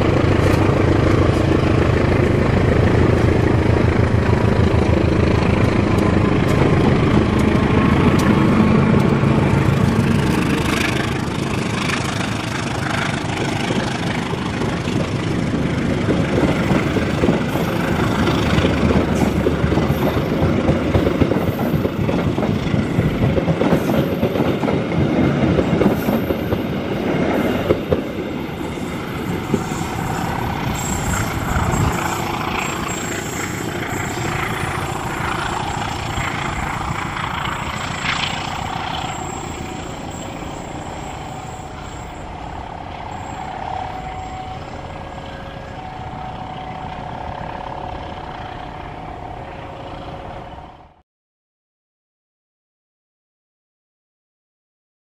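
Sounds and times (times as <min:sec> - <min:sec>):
passenger train rolling past: 0:00.0 - 0:51.0.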